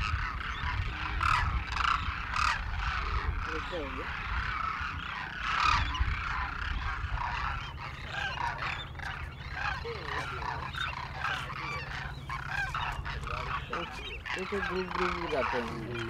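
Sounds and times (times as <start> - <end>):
flock of cranes calling: 0.0 - 16.0.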